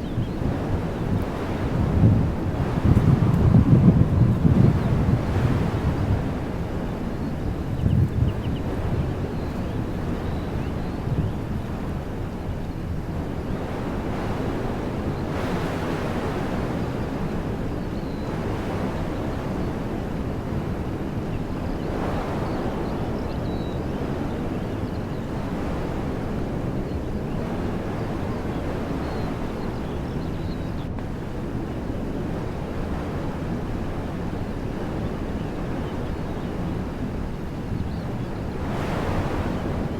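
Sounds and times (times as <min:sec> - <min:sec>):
wind blowing through trees: 0:00.0 - 0:39.9.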